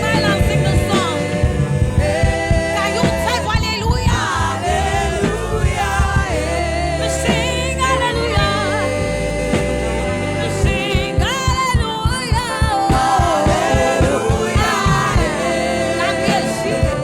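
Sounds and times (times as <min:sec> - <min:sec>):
band with bass keyboard and drums: 0:00.0 - 0:17.0
gospel singing: 0:00.0 - 0:17.0.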